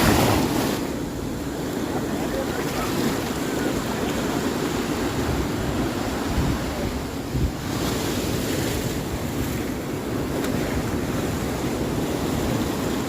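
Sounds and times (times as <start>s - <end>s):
ocean waves washing onto beach: 0.0s - 13.0s
wind rumbling on microphone: 0.0s - 13.0s.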